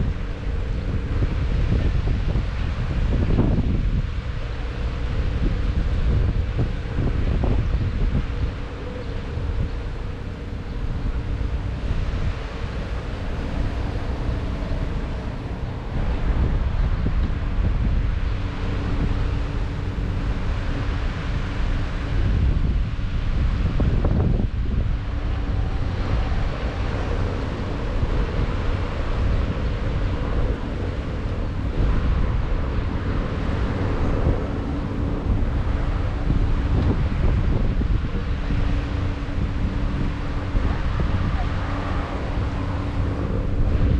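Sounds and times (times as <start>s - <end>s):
faint steady hum: 0.0s - 43.9s
ship engine drone: 0.0s - 43.9s
waves: 0.0s - 43.9s
wind buffeting microphone: 0.0s - 43.9s.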